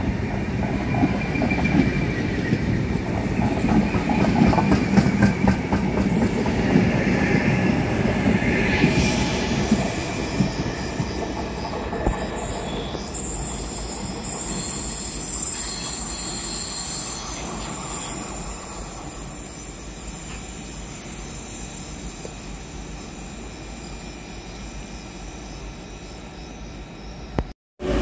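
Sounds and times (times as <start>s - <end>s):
train wheels squealing on rails: 0.0s - 28.0s.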